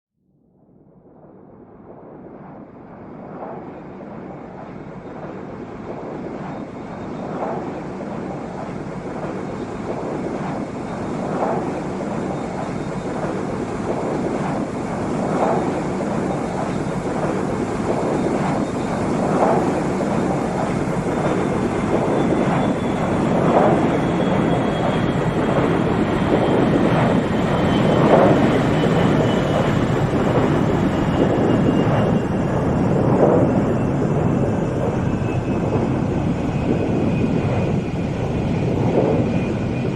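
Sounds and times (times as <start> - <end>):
faint high whine: 1.3 - 39.9
aeroplane engine rushing: 2.2 - 39.9.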